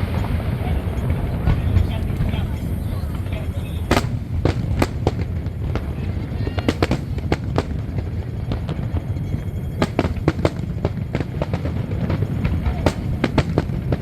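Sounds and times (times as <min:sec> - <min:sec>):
fireworks bangs and cracks: 0:00.0 - 0:14.0
low rumble: 0:00.0 - 0:14.0.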